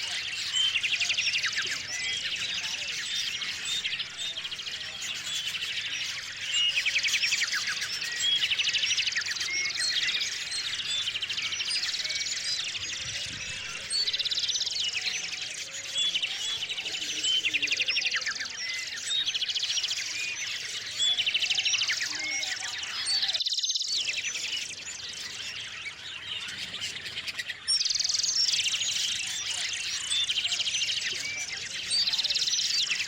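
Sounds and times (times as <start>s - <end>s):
songbirds singing and chirping: 0.0s - 33.0s.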